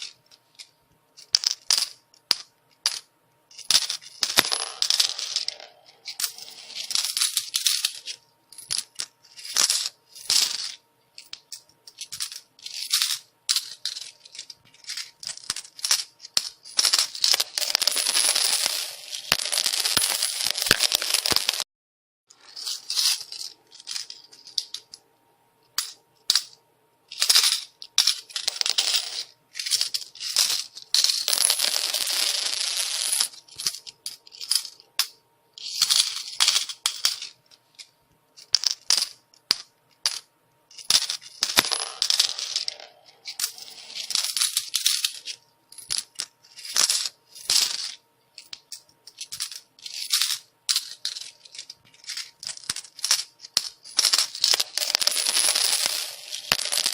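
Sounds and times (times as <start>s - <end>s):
coins falling and clinking: 0.0s - 21.6s, 22.3s - 25.0s, 25.8s - 56.9s.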